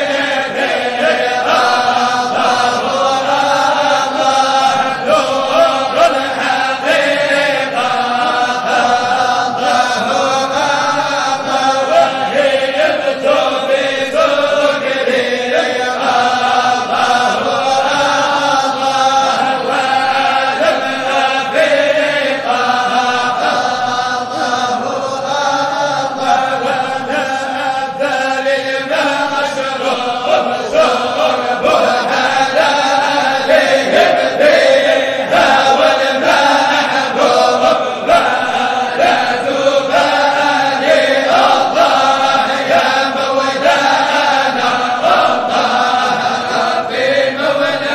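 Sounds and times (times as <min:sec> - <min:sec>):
voices chanting: 0:00.0 - 0:47.9.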